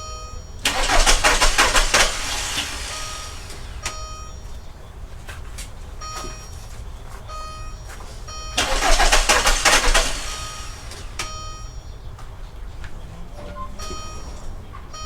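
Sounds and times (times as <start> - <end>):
car warning chime beeps: 0.0 - 15.0
starter cranking diesel engine: 0.0 - 15.0.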